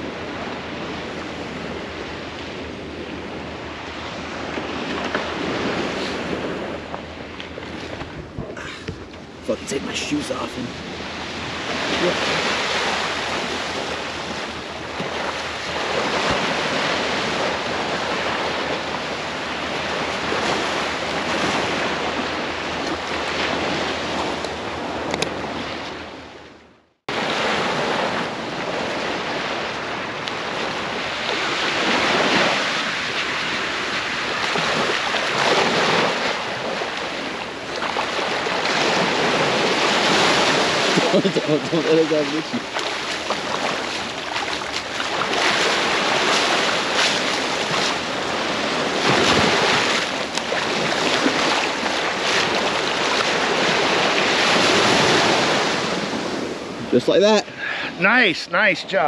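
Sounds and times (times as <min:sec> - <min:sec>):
wind on microphone: 0:00.0 - 0:26.4, 0:27.1 - 0:57.6
surf washing in and out: 0:00.0 - 0:59.0.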